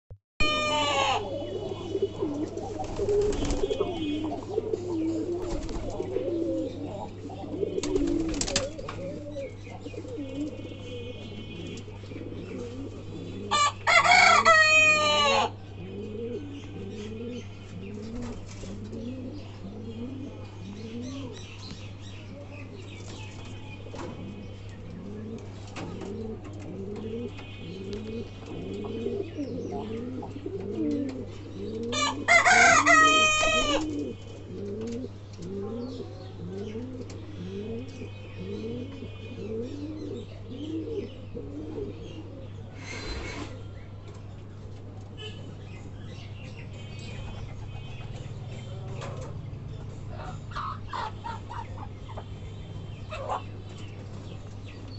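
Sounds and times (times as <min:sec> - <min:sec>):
pigeons cooing: 0:00.4 - 0:21.7, 0:23.9 - 0:43.8, 0:47.1 - 0:54.9.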